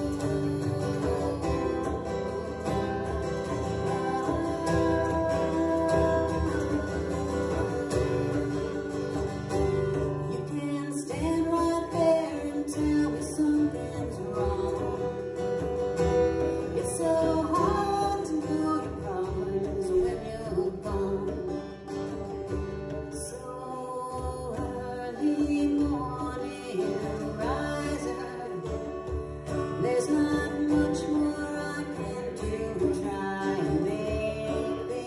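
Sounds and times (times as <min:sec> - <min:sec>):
hand drum: 0:00.0 - 0:35.0
strummed acoustic guitar: 0:00.0 - 0:35.0
woman singing: 0:00.0 - 0:35.0.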